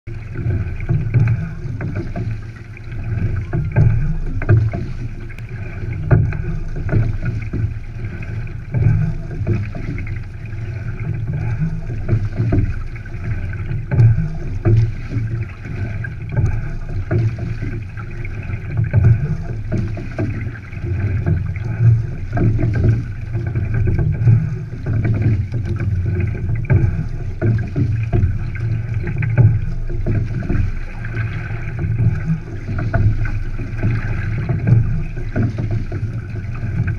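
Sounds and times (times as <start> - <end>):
water rushing along hull: 0.0 - 36.9.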